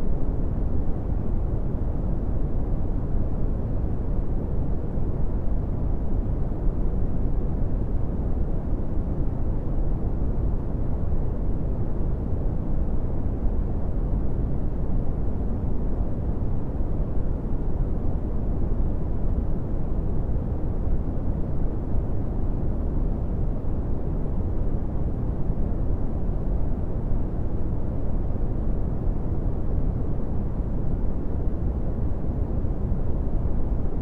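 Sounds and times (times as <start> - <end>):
brown noise rumbling hiss: 0.0 - 34.0.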